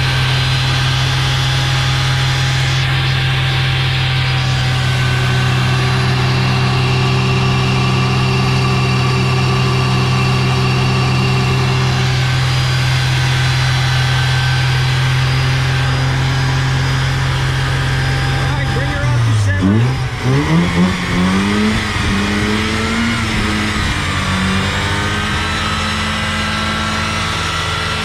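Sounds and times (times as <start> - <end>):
rotary engine at steady revs: 0.0 - 28.0.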